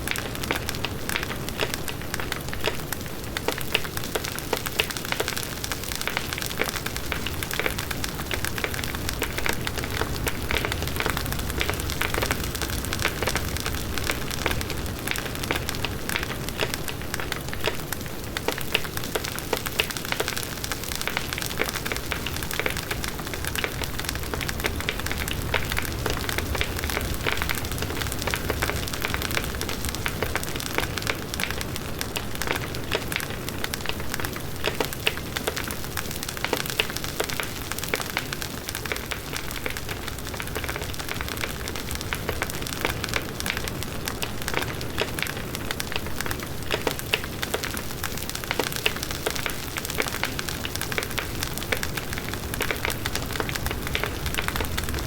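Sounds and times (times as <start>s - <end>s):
wood crackling and popping in fire: 0.0s - 55.0s.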